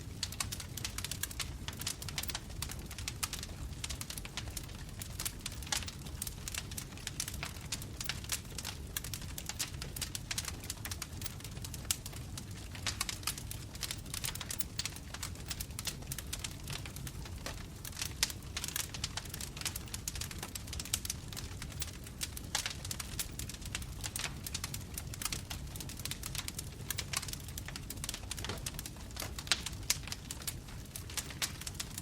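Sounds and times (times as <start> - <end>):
low rumble of flames: 0.0 - 32.0.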